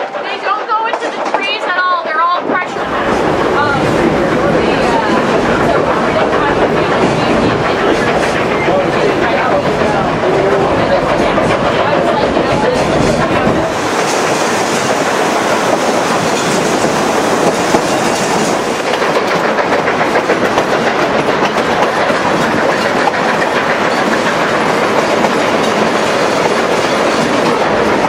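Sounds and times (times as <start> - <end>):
train rolling along track: 0.0 - 28.0
wheels clacking over rail joints: 0.0 - 28.0.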